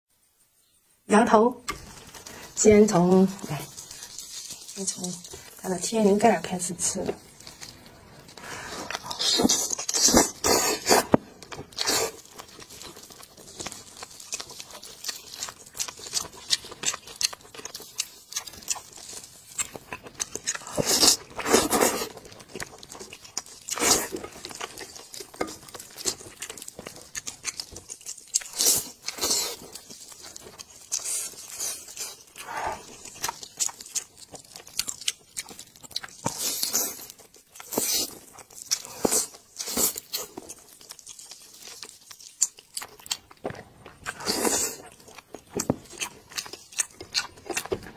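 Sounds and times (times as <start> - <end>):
close-miked chewing and crunching: 1.6 - 47.9
crunchy bites: 7.0 - 47.9.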